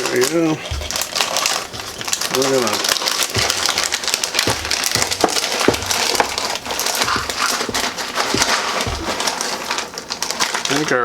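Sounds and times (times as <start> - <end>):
granola poured from plastic bag: 0.0 - 11.0.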